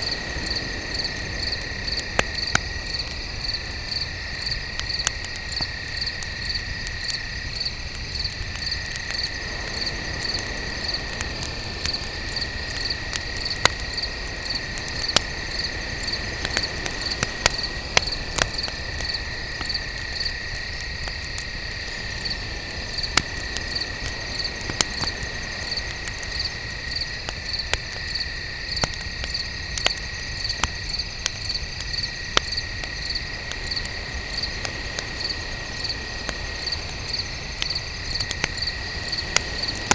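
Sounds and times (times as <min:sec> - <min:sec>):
cricket chirping: 0:00.0 - 0:39.9
cricket trilling: 0:00.0 - 0:39.9
wood fire crackling and popping: 0:00.0 - 0:39.9.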